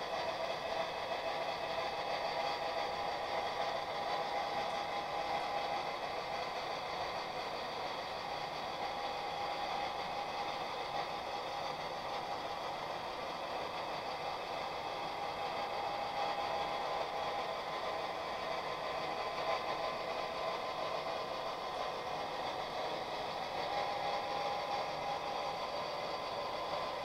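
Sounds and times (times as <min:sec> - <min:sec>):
model train motor whirring: 0:00.0 - 0:27.0.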